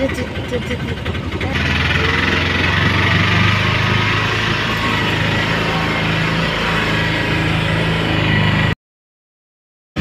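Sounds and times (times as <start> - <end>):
auto-rickshaw engine running: 0.0 - 8.8.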